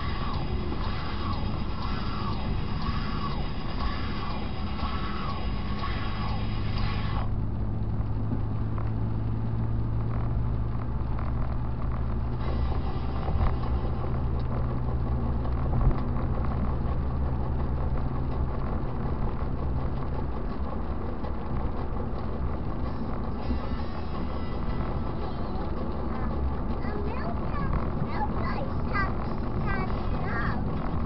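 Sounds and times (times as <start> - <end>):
car engine and tyre hum: 0.0 - 31.0.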